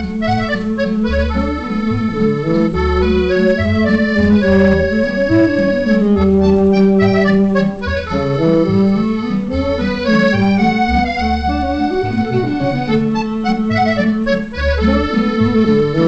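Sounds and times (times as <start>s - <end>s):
accordion waltz with bass: 0.0s - 16.0s.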